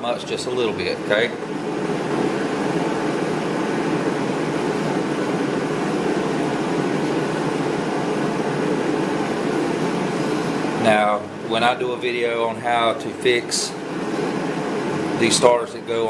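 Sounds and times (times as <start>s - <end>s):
fan whooshing hum: 0.0s - 16.0s.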